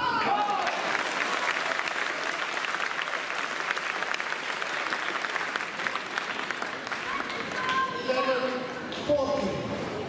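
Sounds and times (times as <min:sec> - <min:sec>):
spectators clapping: 0:00.2 - 0:08.8.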